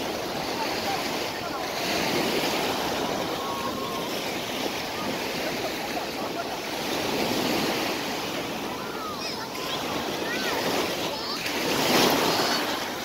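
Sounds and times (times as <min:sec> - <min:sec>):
faint voices: 0:00.0 - 0:13.0
surf breaking on beach: 0:00.0 - 0:13.0.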